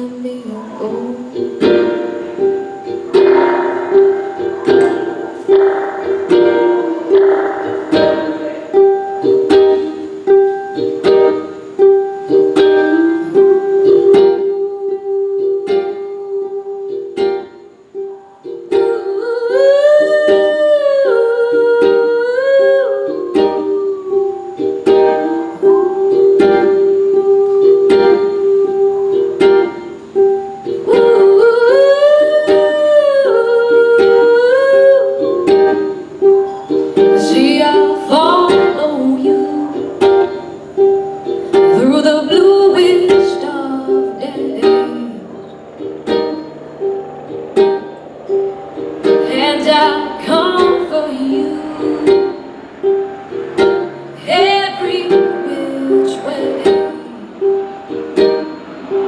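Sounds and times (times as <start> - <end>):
acoustic ukulele: 0.0 - 59.0
person singing wordless melody: 0.0 - 59.0.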